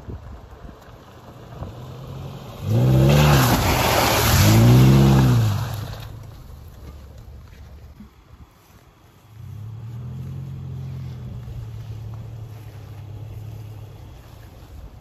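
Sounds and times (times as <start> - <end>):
car engine humming: 0.2 - 15.0.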